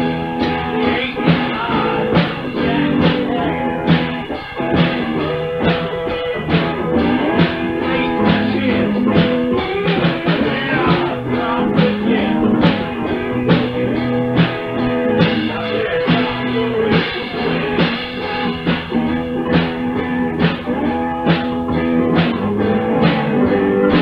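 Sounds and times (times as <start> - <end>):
drum kit beat: 0.0 - 24.0
electric guitar: 0.0 - 24.0.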